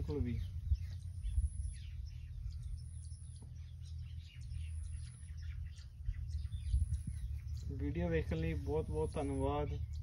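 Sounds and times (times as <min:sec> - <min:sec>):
small birds chirping: 0:00.0 - 0:10.0
steady low rumble: 0:00.0 - 0:10.0.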